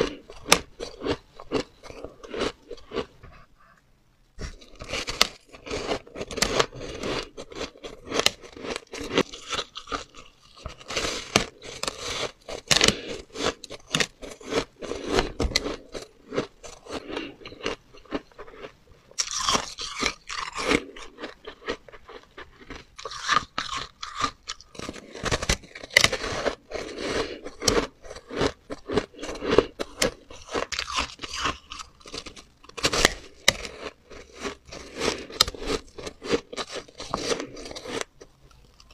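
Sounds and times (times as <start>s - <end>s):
ice being bitten and chewed: 0.0s - 3.2s, 4.4s - 38.9s.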